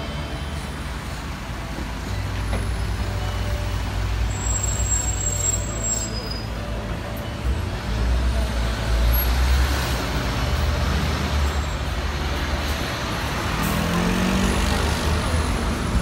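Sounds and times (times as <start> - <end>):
bus engines rumbling: 0.0 - 16.0
road noise: 0.0 - 16.0.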